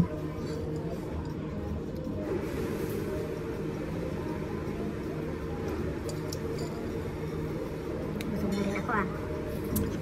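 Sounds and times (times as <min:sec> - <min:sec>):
restaurant background hum: 0:00.0 - 0:10.0.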